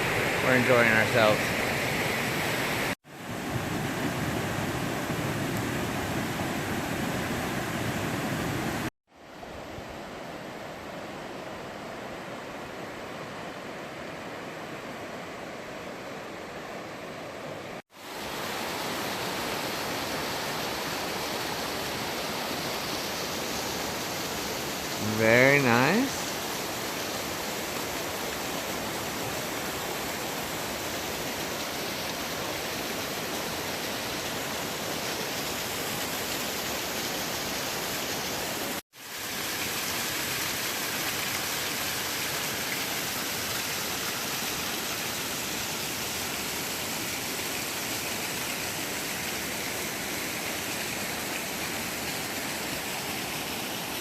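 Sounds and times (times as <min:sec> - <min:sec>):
waterfall rushing: 0:00.0 - 0:08.9, 0:18.0 - 0:54.0.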